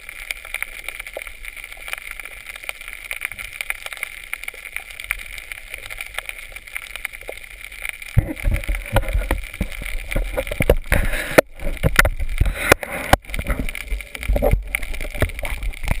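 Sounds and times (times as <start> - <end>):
muffled underwater hiss: 0.0 - 16.0.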